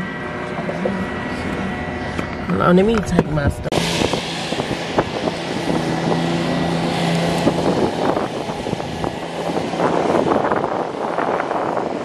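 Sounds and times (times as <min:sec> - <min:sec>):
low hum: 0:00.0 - 0:12.0
wind buffeting microphone: 0:00.0 - 0:12.0.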